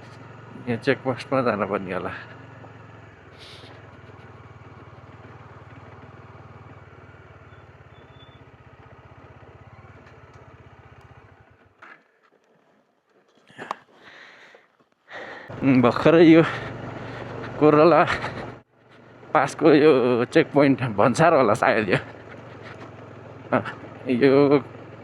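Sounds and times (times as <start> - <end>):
motorcycle engine idling: 0.0 - 13.6, 15.2 - 25.0.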